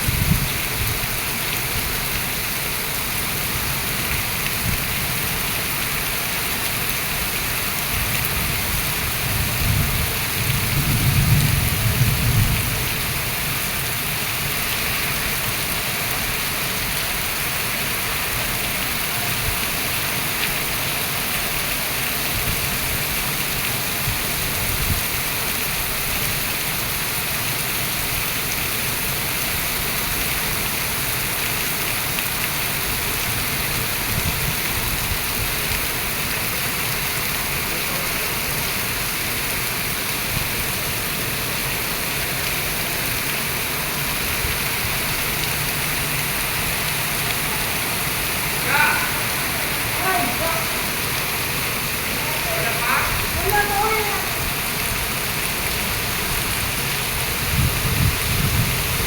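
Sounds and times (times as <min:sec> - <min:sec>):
rain pouring and splashing: 0:00.0 - 0:59.0.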